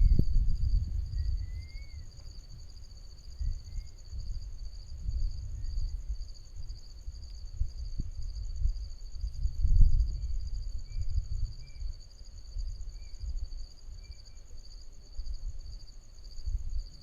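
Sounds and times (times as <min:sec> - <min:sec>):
low gusty rumble: 0:00.0 - 0:13.8
insects trilling: 0:00.0 - 0:17.0.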